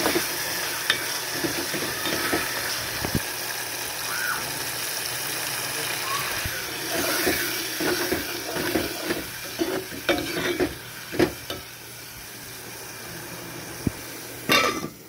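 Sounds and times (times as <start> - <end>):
curry sizzling: 0.0 - 15.0.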